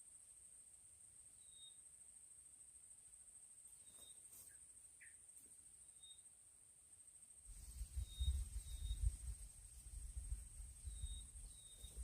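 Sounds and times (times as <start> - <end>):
faint chirps: 0.0 - 12.0
faint high-pitched whine: 0.0 - 12.0.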